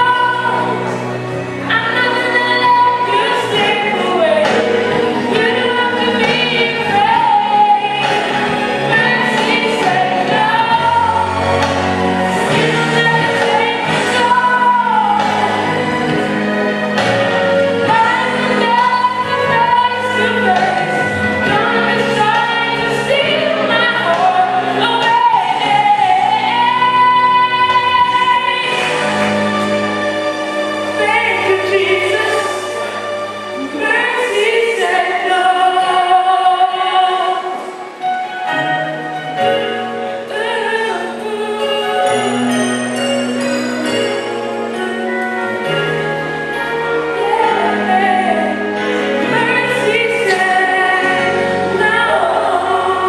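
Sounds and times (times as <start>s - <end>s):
instrumental backing: 0.0s - 53.0s
voices singing gospel song: 1.7s - 37.8s, 46.4s - 53.0s.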